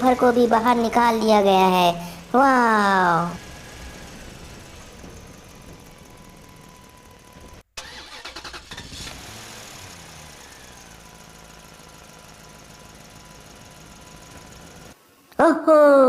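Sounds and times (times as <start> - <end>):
rapid rattling pulses: 0.0 - 15.0
vehicle engine running: 0.0 - 15.0.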